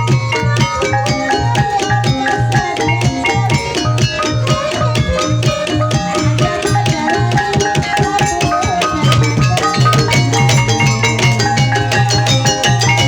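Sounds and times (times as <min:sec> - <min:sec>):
hand drum strokes: 0:00.0 - 0:13.0
long held melody line: 0:00.0 - 0:13.0
pitched percussion notes: 0:00.0 - 0:13.0.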